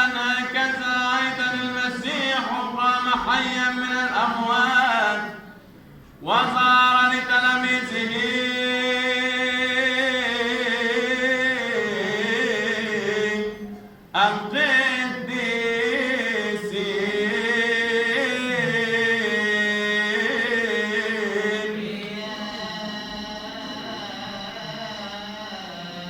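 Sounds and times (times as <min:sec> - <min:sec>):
man singing melismatic chant: 0:00.0 - 0:05.6, 0:06.2 - 0:26.0.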